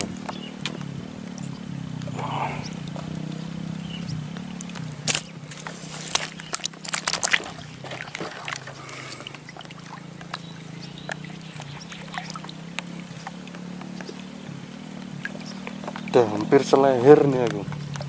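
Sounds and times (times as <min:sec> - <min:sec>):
low engine drone: 0:00.0 - 0:18.0
water splashing and dripping: 0:00.0 - 0:18.0.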